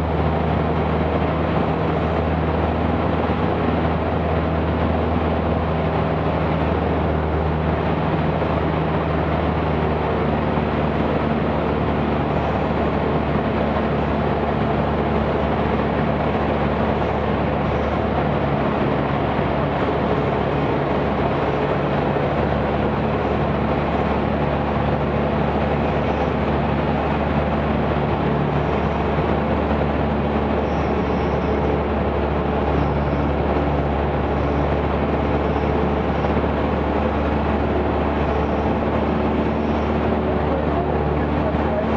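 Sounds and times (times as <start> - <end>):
airflow noise: 0.0 - 41.9
propeller plane engine drone: 0.0 - 41.9.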